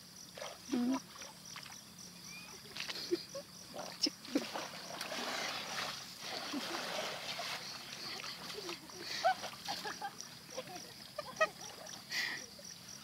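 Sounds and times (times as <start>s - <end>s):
muddy water splashing: 0.3s - 12.9s.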